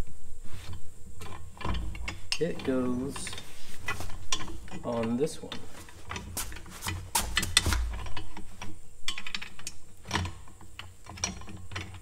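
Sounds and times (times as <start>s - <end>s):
metal clicks and knocks: 1.2s - 12.0s.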